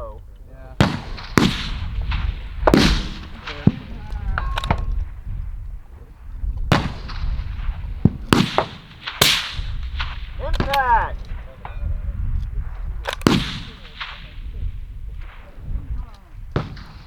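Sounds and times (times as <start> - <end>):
rifle shots with echo: 0.7 - 17.0.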